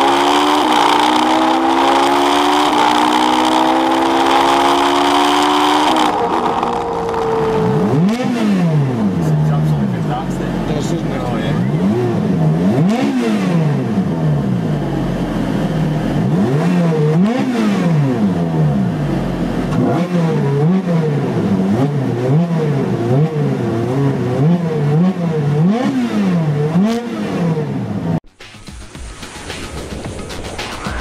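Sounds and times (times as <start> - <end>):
car engine revving: 0.0 - 28.2.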